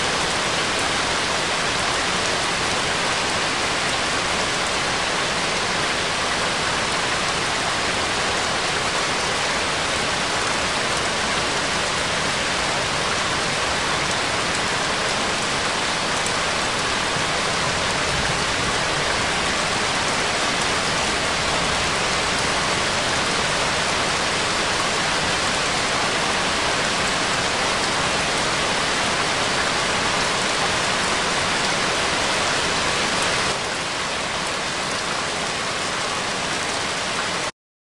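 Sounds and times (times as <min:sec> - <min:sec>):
steady rain-like noise: 0:00.0 - 0:37.5.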